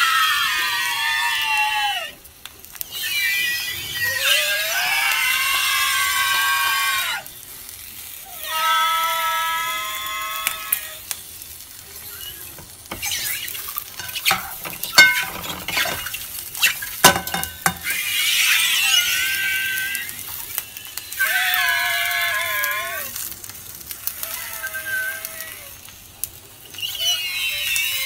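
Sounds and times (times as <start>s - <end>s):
food sizzling and crackling: 0.0s - 28.0s
food squealing in a frying pan: 0.0s - 28.0s.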